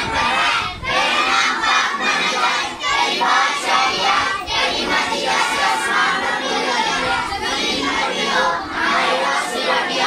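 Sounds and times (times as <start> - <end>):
children reciting in unison: 0.0 - 10.0.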